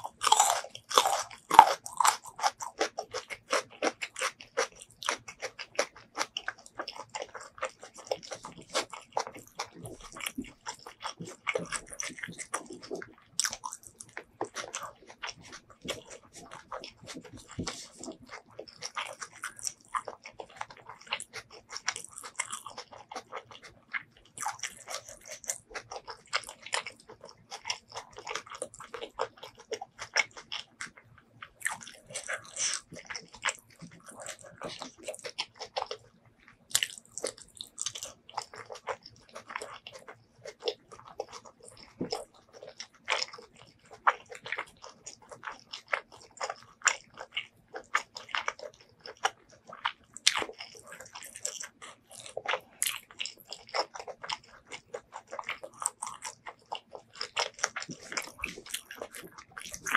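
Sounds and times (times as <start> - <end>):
wet chewing and lip smacks: 0.0 - 59.9.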